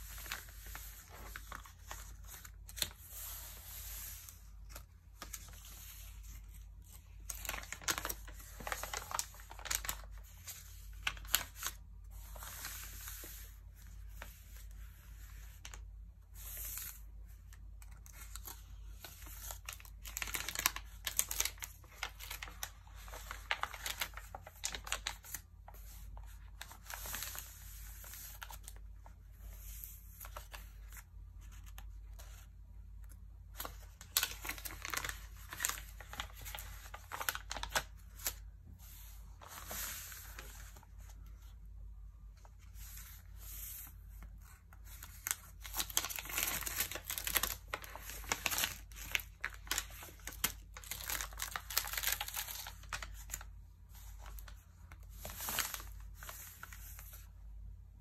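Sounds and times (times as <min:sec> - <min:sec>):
magazine pages rustling: 0:00.0 - 0:41.5, 0:42.4 - 0:57.3.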